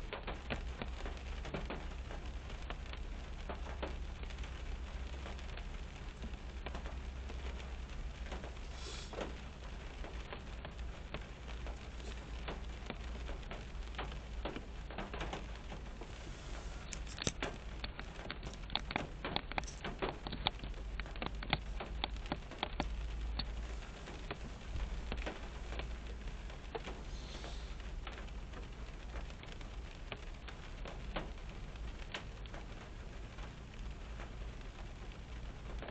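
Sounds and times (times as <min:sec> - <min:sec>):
low steady rumble: 0:00.0 - 0:35.9
rain on car roof: 0:00.0 - 0:35.9.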